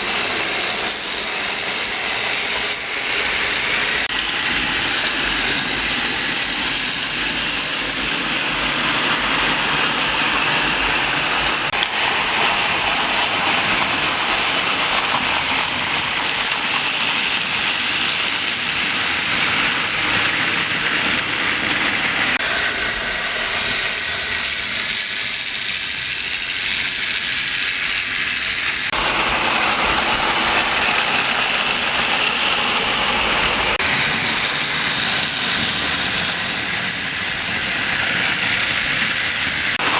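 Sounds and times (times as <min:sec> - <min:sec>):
model trains running: 0:00.0 - 0:39.9.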